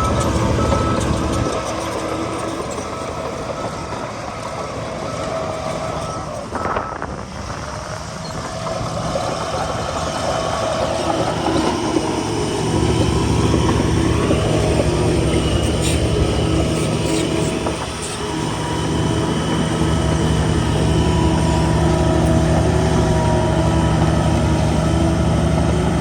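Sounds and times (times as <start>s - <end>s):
heavy diesel machinery engine: 0.0s - 26.0s.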